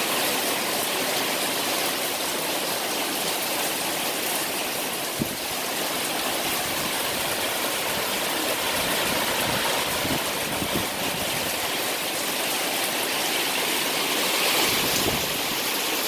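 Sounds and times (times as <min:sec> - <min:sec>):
rain on a metal roof and trees: 0:00.0 - 0:16.0.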